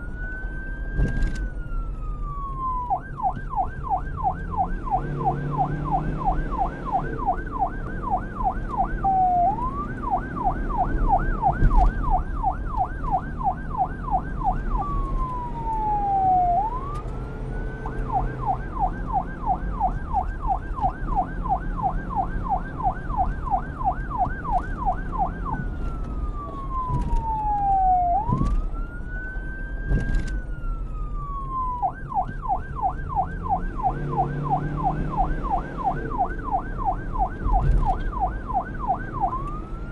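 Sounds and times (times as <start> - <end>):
low vehicle rumble: 0.0 - 39.9
police siren yelp and wail: 0.0 - 39.9.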